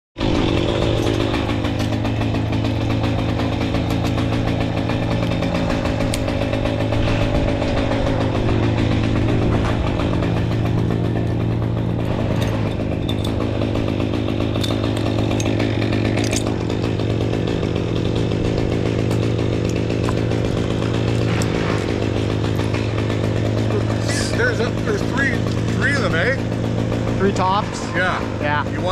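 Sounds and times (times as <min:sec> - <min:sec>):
engine running with low drone: 0:00.2 - 0:28.9.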